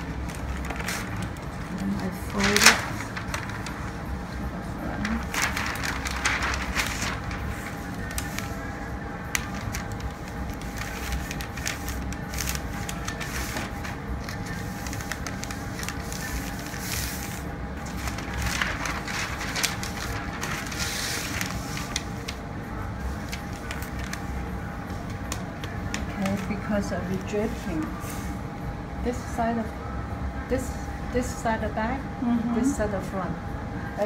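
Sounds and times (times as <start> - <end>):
paper rustling and crinkling: 0.0 - 28.3.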